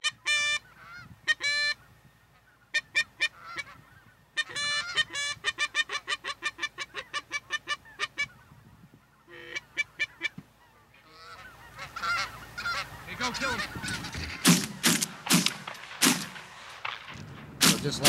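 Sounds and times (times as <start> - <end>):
geese honking in flight: 0.0 - 16.3.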